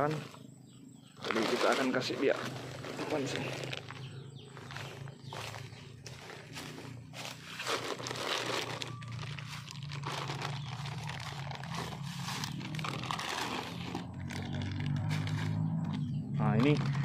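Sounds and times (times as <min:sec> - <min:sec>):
dry leaves crunching underfoot: 0:01.2 - 0:17.0.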